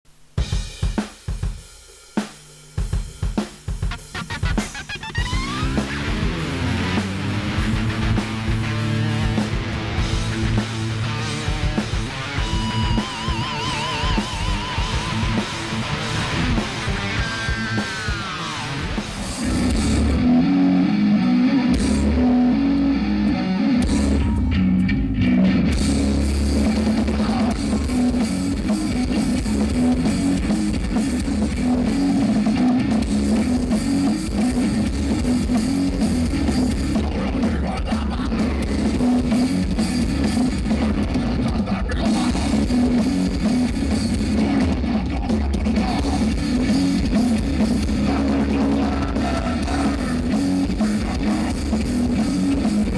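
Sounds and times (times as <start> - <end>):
drum kit: 0.1 - 52.9
distorted electric guitar riffs: 2.7 - 52.9.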